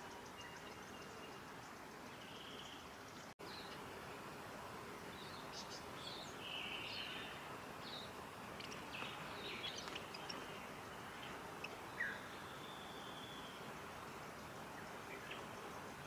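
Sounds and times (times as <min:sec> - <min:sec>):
forest ambience hiss: 0:00.0 - 0:16.0
small birds chirping: 0:00.0 - 0:16.0.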